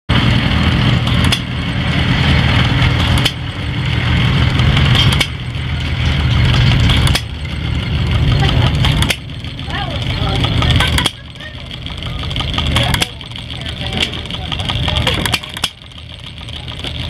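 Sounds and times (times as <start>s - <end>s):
model gasoline engine running: 0.1s - 17.0s.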